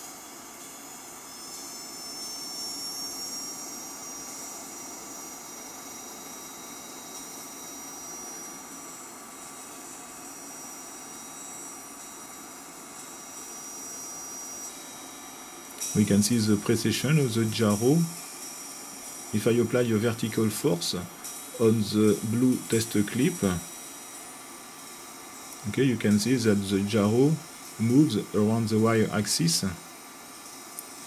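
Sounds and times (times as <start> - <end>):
high thin motor whine: 0.0 - 31.0
steady hiss: 0.0 - 31.0.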